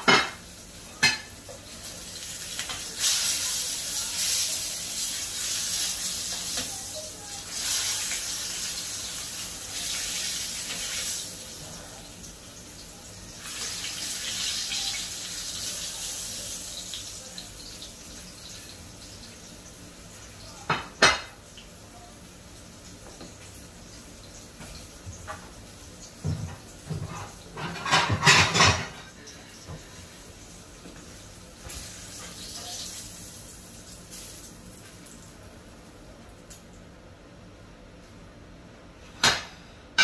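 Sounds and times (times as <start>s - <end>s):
fish frying in oil: 0.0s - 29.4s, 30.2s - 35.8s.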